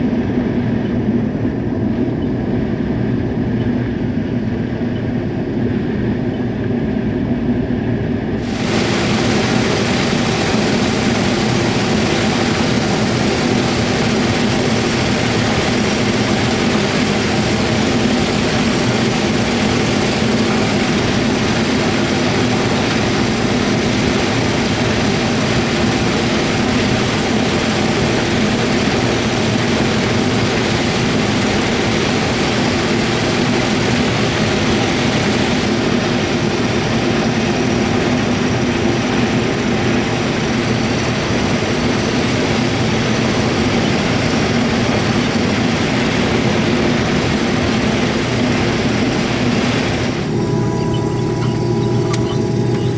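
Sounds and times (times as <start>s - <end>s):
corn sheller engine running: 8.4s - 52.9s.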